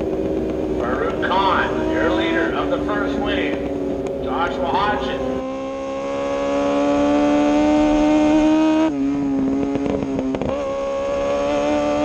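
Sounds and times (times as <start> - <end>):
exhaust pops and crackles: 0.0 - 12.0
motorcycle engine at high revs: 0.0 - 12.0.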